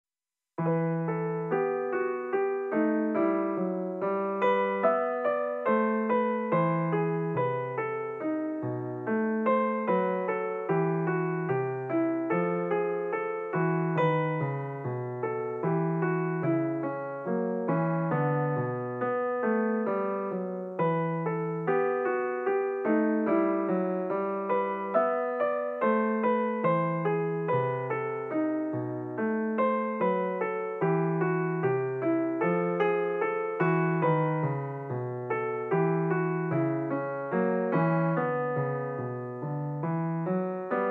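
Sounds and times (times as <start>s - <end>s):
gentle piano melody: 0.6s - 40.9s.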